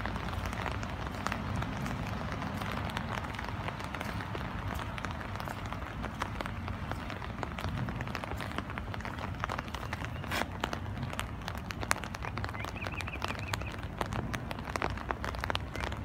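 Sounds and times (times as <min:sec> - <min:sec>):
raindrops ticking: 0:00.0 - 0:16.0
steady rain: 0:00.0 - 0:16.0.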